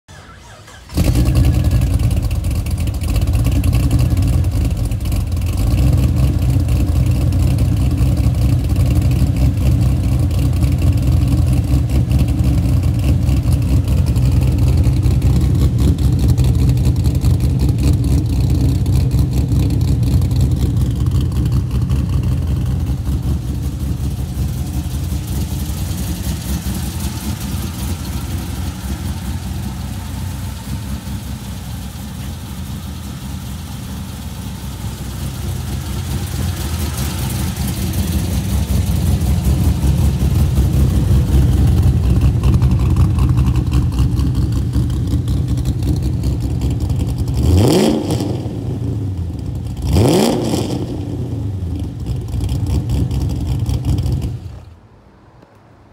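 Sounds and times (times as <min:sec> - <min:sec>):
loud engine idling with lope: 0:00.0 - 0:49.9.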